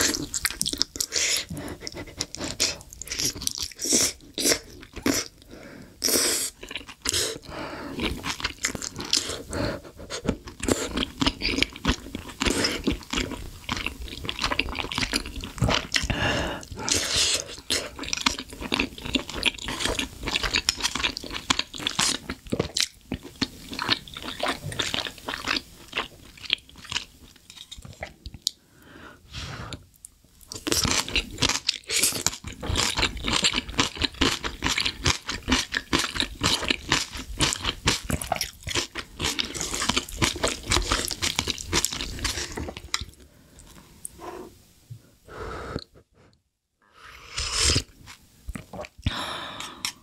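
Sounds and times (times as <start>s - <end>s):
close chewing with crisp crunching: 0.0s - 28.6s, 30.0s - 44.2s.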